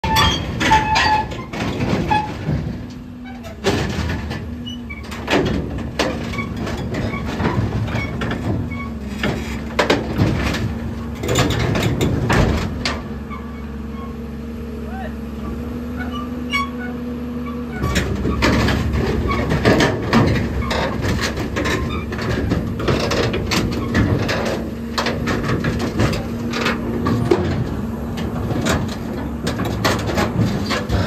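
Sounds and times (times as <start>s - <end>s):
metal knocks and clanks: 0.0s - 13.6s, 17.7s - 31.0s
heavy machine engine humming: 0.0s - 31.0s.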